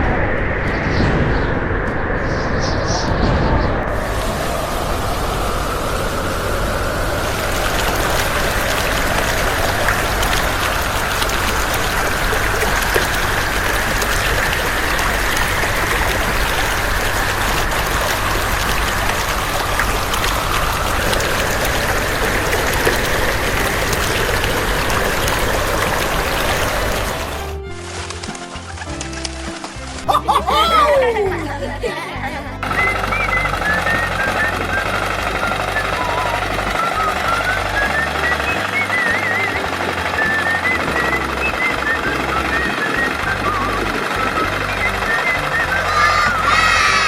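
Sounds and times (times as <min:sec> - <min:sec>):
running water rushing: 0:00.0 - 0:47.0.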